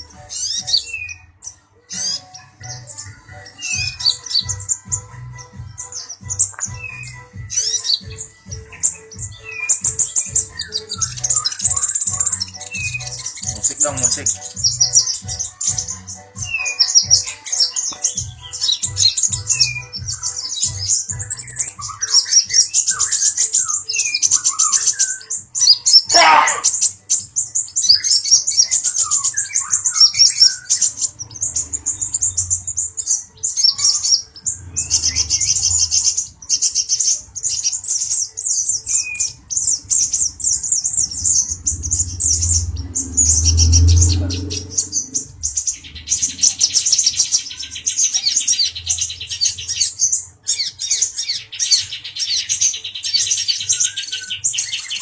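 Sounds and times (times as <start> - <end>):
sunbird twittering: 5.9 - 26.1, 26.7 - 55.0.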